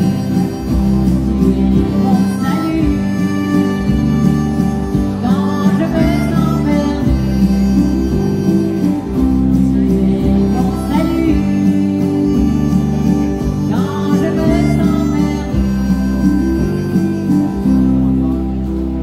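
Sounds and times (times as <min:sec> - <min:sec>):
acoustic guitar strumming: 0:00.0 - 0:19.0
harmonica melody: 0:00.0 - 0:19.0
keyboard bass: 0:00.0 - 0:19.0.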